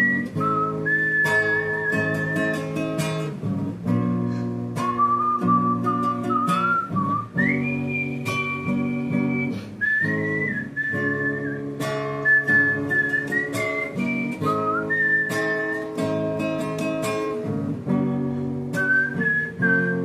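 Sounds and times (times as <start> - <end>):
whistled melody: 0.0 - 3.3, 4.7 - 17.4, 18.7 - 20.0
strummed acoustic guitar: 0.0 - 20.0.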